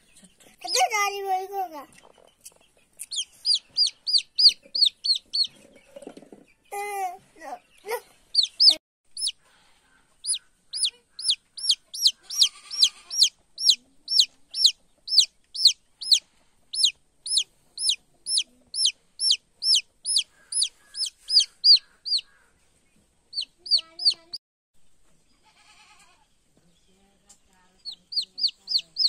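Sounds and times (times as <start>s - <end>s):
chick peeping: 1.9s - 24.4s, 27.7s - 29.0s.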